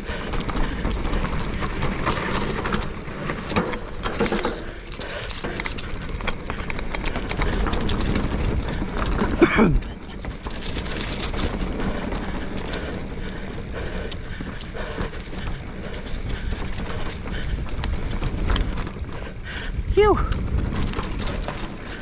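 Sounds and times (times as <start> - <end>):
bike rattles and clicks: 0.0 - 22.0
bike tyres rolling on dirt: 0.0 - 22.0
tyres on log planks: 0.0 - 22.0.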